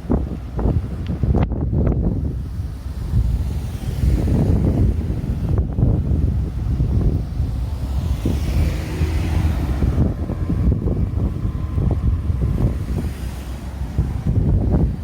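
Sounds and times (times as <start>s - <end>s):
road traffic: 0.0s - 15.0s
wind buffeting microphone: 0.0s - 15.0s
car passing: 2.1s - 15.0s.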